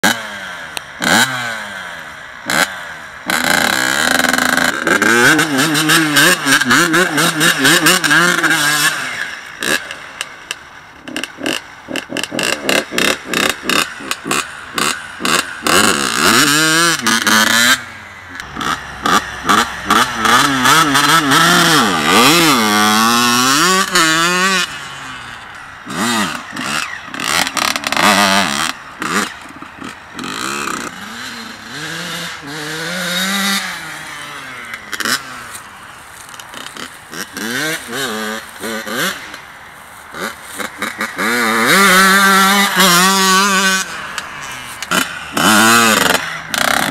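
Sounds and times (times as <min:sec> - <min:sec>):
two-stroke dirt bike engine revving: 0:00.0 - 0:46.9.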